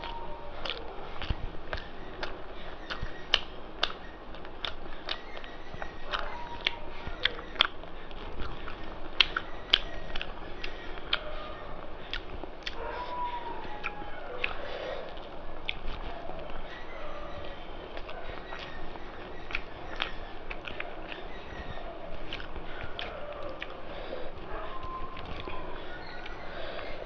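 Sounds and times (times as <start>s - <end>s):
wet chewing with lip smacks: 0.0s - 27.0s.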